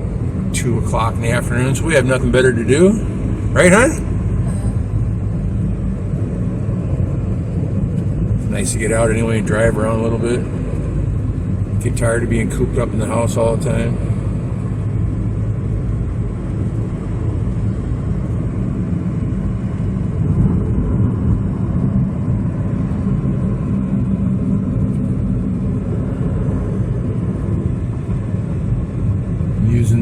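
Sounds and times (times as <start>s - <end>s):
vehicle driving rumble: 0.0s - 30.0s.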